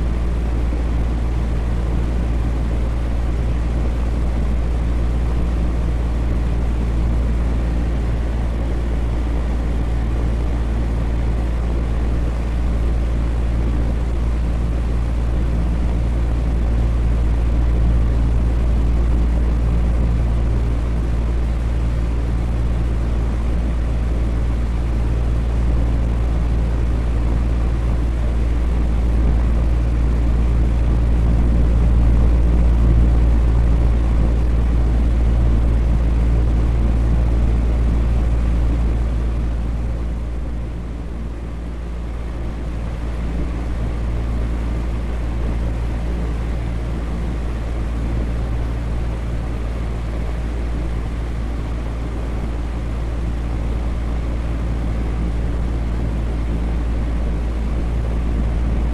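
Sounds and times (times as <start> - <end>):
electric fan whirring: 0.0 - 58.9.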